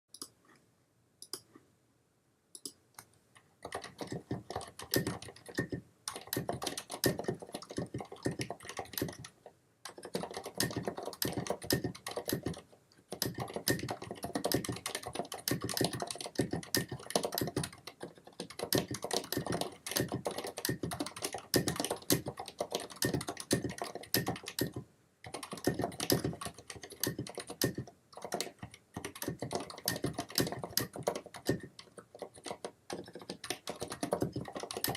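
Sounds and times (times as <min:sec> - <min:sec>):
muted keyboard keystrokes: 0:01.2 - 0:01.5, 0:02.6 - 0:34.9.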